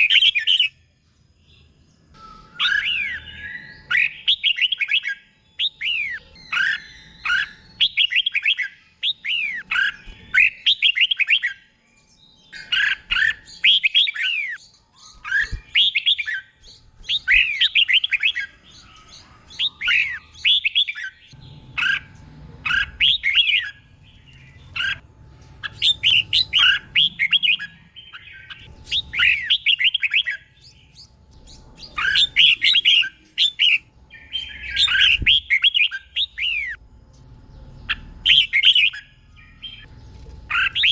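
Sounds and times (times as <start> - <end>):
bird singing: 0.0 - 40.9.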